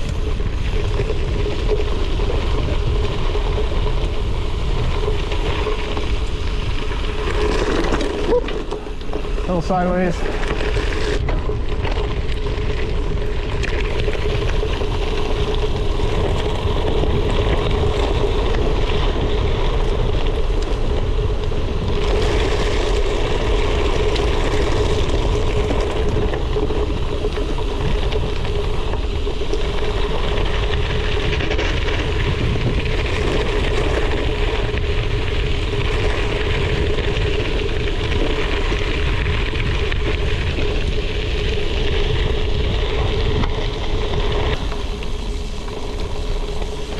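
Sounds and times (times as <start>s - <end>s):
bike tyres rolling on gravel: 0.0s - 46.9s
wind noise on microphone: 0.0s - 46.9s.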